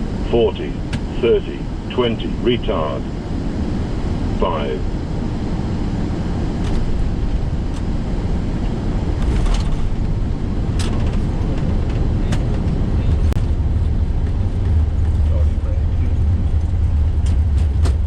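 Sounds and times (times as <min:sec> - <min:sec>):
low rumble of runway and engines: 0:00.0 - 0:18.0.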